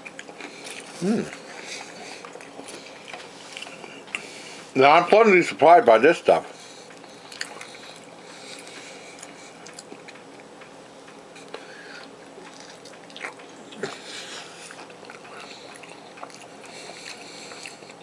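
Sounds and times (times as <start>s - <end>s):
person chewing crunchy food: 0.0s - 4.7s, 6.5s - 18.0s.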